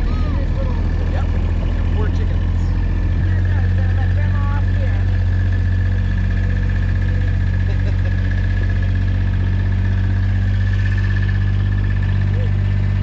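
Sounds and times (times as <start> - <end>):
utility vehicle engine humming: 0.0 - 13.0.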